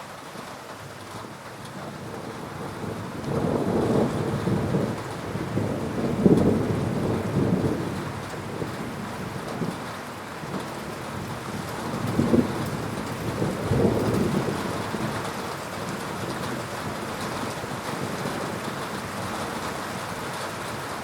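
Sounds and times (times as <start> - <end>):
steady rain: 0.0 - 21.0
rolling thunder: 1.8 - 20.0.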